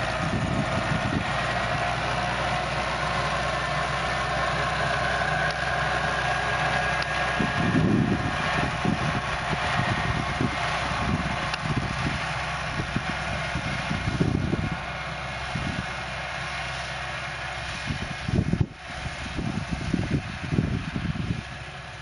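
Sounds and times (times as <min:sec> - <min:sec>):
wind buffeting microphone: 0:00.0 - 0:16.0, 0:17.7 - 0:21.6
tractor diesel engine running: 0:00.0 - 0:22.0.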